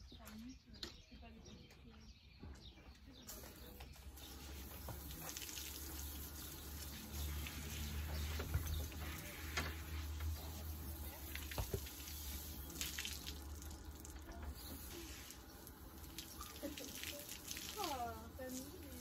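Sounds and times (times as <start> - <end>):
hose water spraying and splashing: 3.3 - 19.0.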